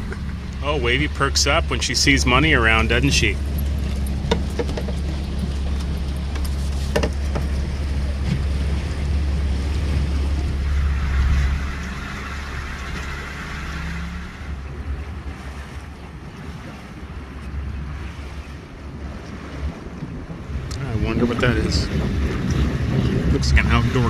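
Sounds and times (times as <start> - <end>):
outboard motor droning: 0.0 - 24.0
wind: 0.0 - 24.0.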